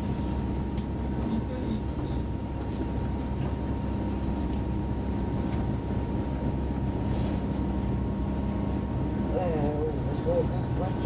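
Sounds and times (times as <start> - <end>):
constant hum: 0.0 - 11.0
train rumble inside carriage: 0.0 - 11.0.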